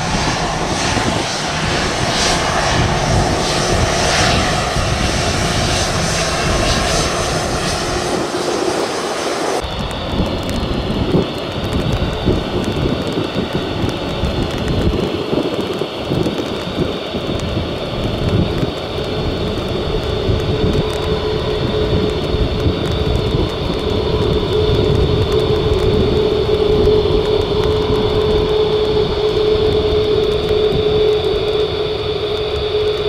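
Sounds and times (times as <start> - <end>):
jet engines rumbling with fan whine: 0.0 - 33.0.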